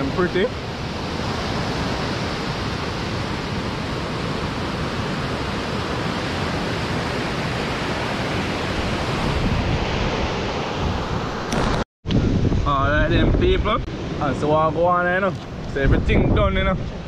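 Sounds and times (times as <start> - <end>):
sea surf rushing: 0.0 - 17.0.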